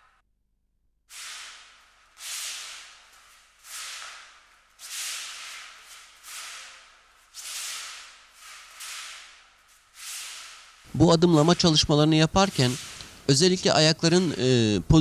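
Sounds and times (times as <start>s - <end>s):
feet sliding across mat: 1.1s - 13.3s.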